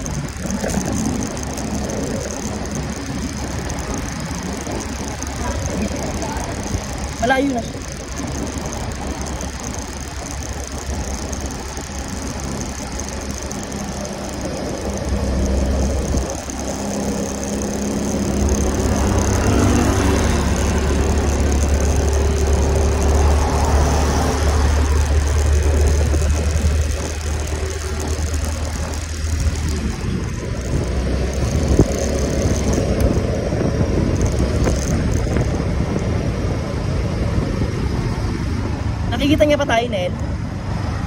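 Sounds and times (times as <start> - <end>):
scooter engine running: 0.0 - 41.0
wind and road noise: 0.0 - 41.0.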